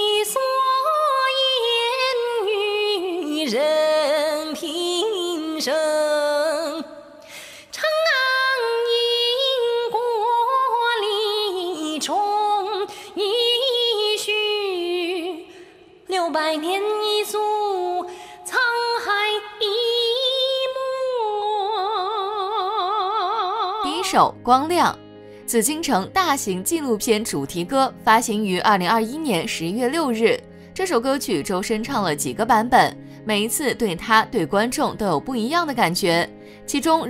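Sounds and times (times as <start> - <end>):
light musical backing: 0.0 - 37.0.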